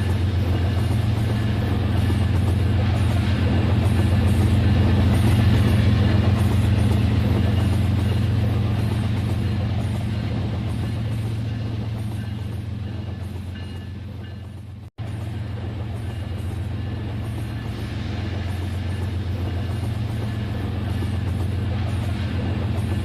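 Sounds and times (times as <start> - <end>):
model train humming on track: 0.0 - 23.0.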